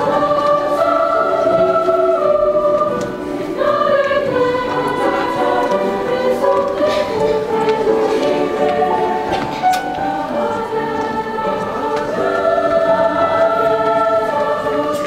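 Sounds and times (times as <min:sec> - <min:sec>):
choir singing in harmony: 0:00.0 - 0:15.0.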